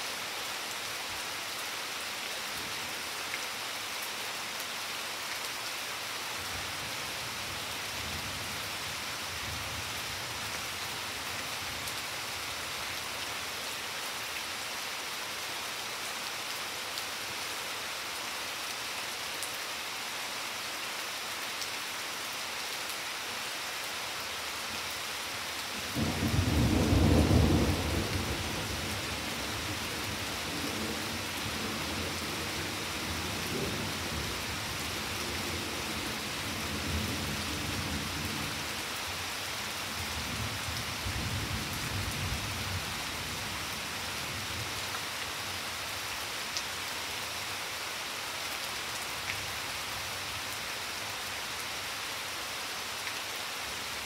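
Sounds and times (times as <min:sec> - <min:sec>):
rain on plants and flagstones: 0:00.0 - 0:54.0.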